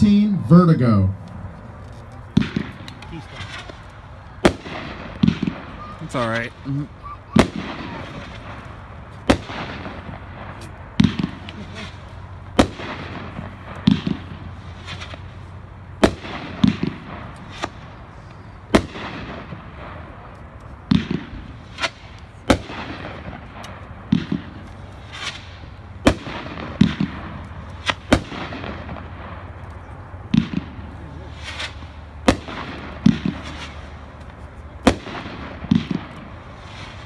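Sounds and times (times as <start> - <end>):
firework shells cracking: 1.2 - 37.0
firework launch thumps: 7.3 - 37.0.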